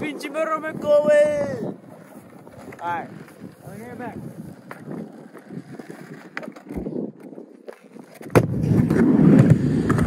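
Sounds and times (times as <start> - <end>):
skateboard wheels rumbling: 0.0 - 10.0
skateboard clack: 1.7 - 10.0
skateboard clicks: 1.8 - 10.0.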